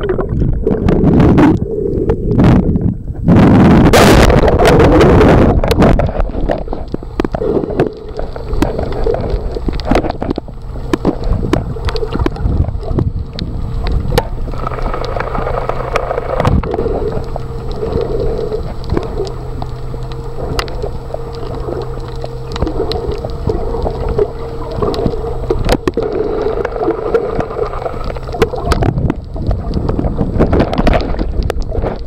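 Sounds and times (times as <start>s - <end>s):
faint steady hum: 0.0s - 32.0s
muffled underwater rumble: 0.0s - 32.0s
water rushing and bubbling: 0.0s - 32.0s.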